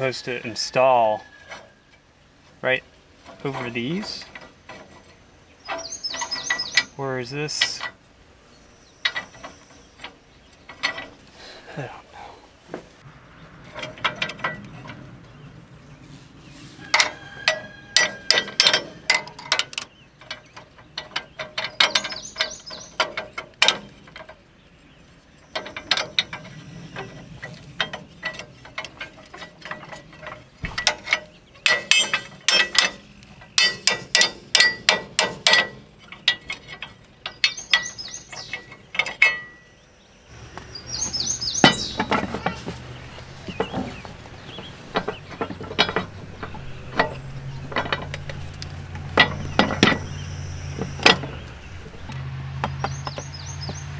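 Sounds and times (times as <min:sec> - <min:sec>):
metal parts and tools clanking: 0:00.0 - 0:53.8.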